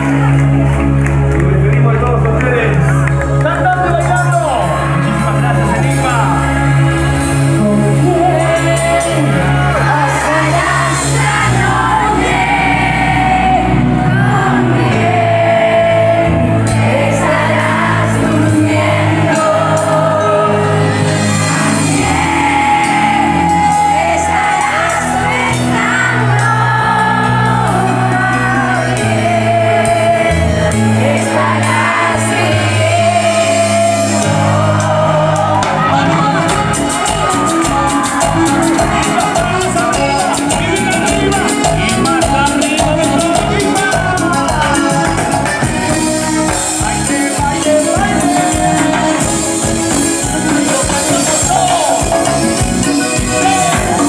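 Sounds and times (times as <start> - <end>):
live cumbia band: 0.0 - 54.0.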